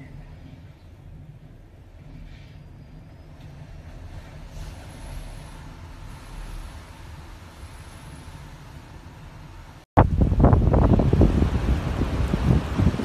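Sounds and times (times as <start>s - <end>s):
faint high wind whistling: 0.0s - 13.0s
wind hissing: 0.0s - 13.0s
wind rumbling: 0.0s - 13.0s.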